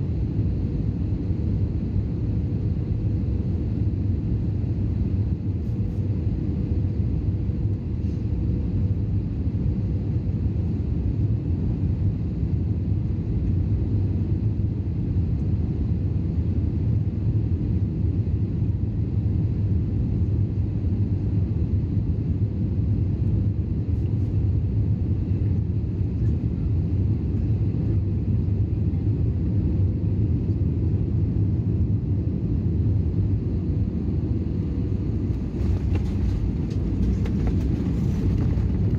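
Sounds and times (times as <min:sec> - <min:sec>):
airplane cabin engine rumble: 0:00.0 - 0:38.9
faint steady hum: 0:00.0 - 0:38.9.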